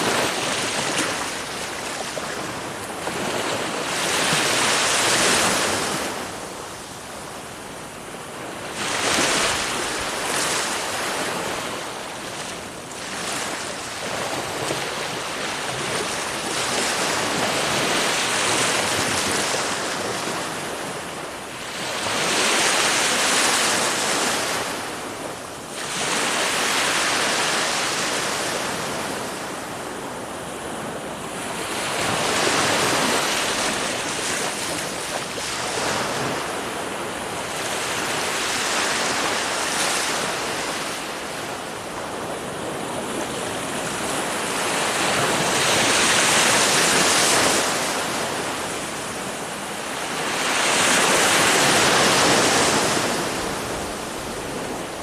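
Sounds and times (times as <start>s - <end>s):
ocean waves breaking: 0.0s - 55.0s
wind on microphone: 0.0s - 55.0s.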